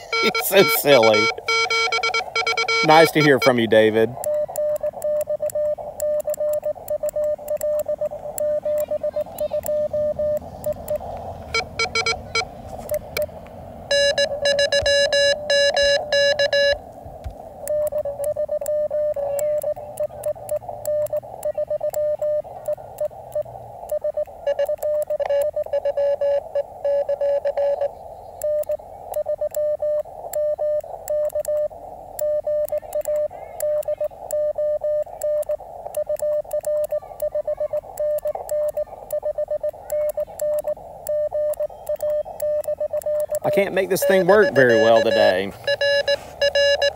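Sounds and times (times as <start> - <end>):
morse code tone: 0.0 - 16.8, 17.6 - 46.9
faint radio hiss: 0.0 - 46.9.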